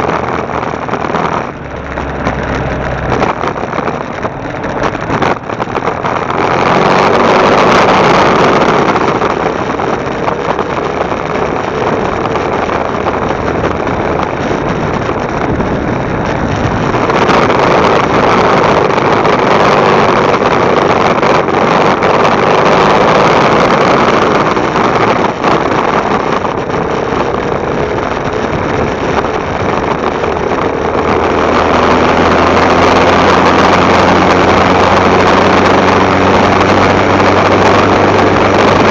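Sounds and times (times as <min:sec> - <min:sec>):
motorcycle engine running: 0:00.0 - 0:38.9
road noise: 0:00.0 - 0:38.9
wind rushing: 0:00.0 - 0:38.9.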